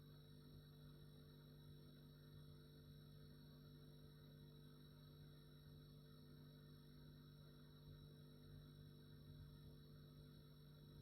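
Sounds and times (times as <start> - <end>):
refrigerator hum: 0.0 - 11.0.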